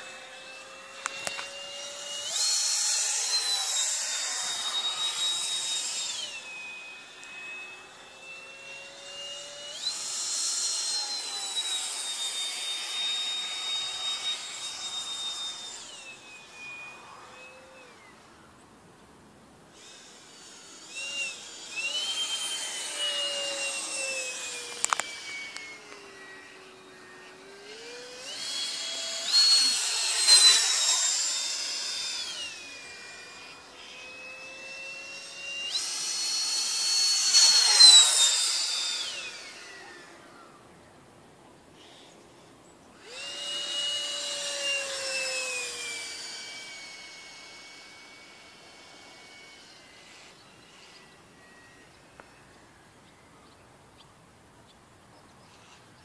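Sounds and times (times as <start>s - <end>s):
model jet fan whining: 0.0s - 54.0s.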